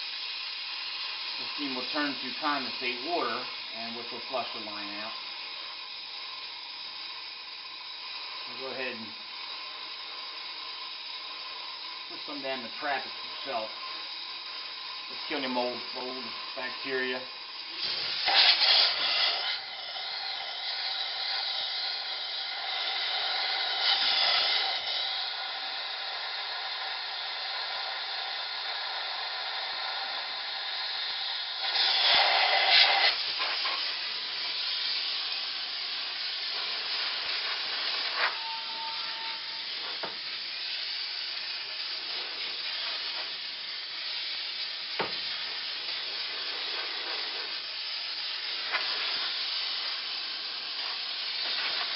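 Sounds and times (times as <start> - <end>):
steam cleaner jet hissing: 0.0 - 51.9.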